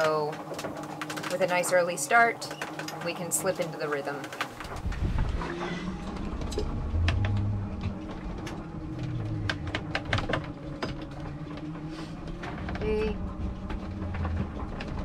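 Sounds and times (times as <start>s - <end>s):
low hum: 0.0s - 15.0s
sailboat gear clicking and knocking: 0.0s - 15.0s.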